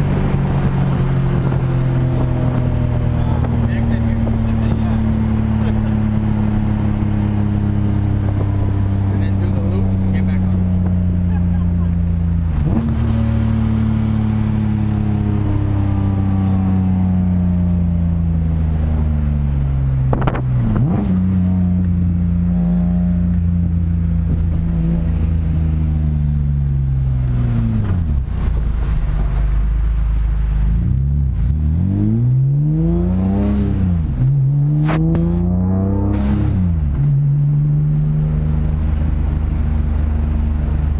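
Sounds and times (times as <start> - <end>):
loud car engine revving: 0.0 - 28.4, 30.6 - 40.9.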